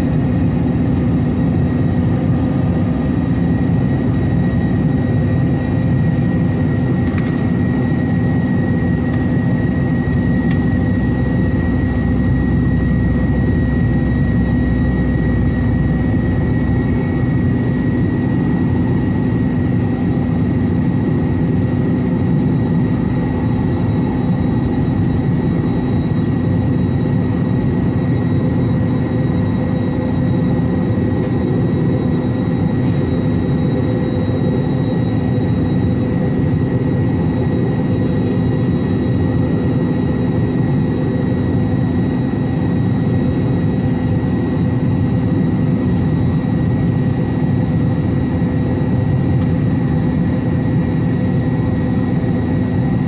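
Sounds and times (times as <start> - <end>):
high engine whine: 0.0 - 53.0.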